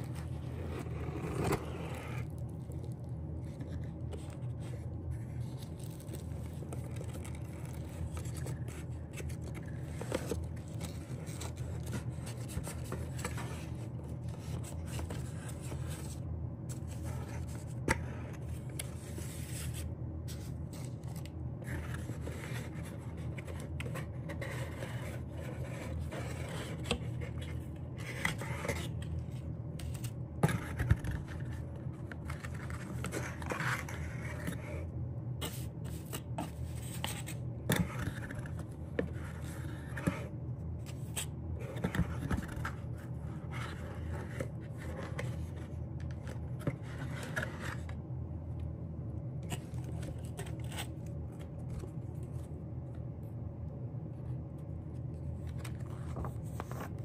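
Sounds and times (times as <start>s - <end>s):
card and wrapping rustling: 0.0s - 48.1s, 49.3s - 53.1s, 54.1s - 57.0s
steady low hum: 0.0s - 57.0s.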